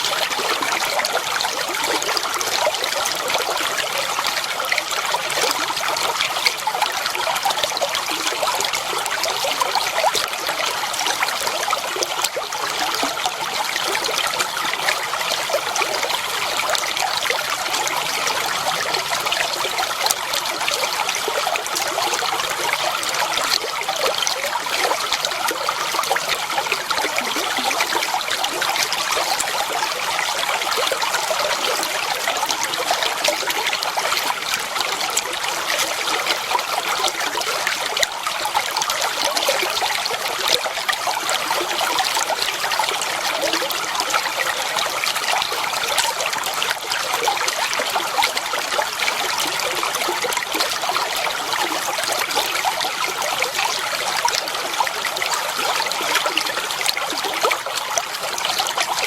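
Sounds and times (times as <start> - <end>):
water flowing over stones: 0.0 - 59.0.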